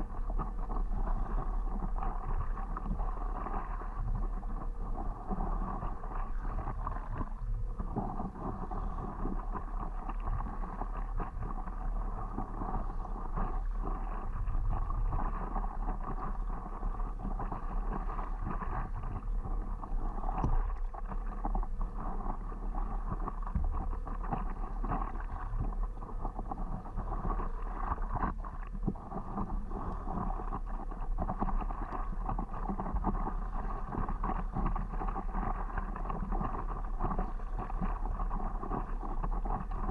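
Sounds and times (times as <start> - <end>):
water splashing around paddleboard: 0.0 - 39.9
wind on microphone: 0.0 - 39.9.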